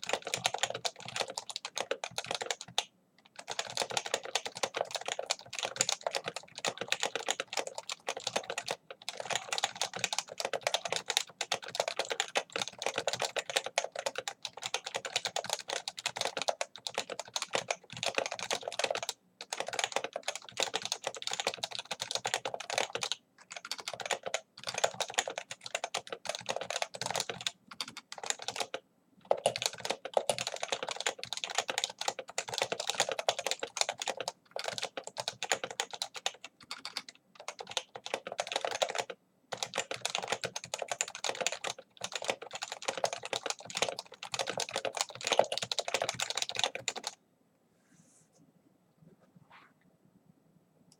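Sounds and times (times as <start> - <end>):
fast keyboard typing: 0.0 - 47.2.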